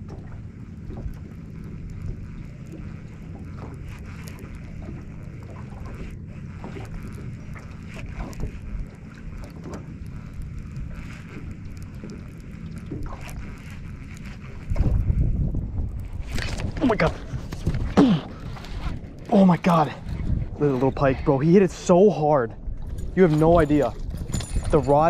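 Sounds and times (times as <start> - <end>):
waves lapping against boat hull: 0.0 - 25.0
wind buffeting microphone: 4.4 - 25.0.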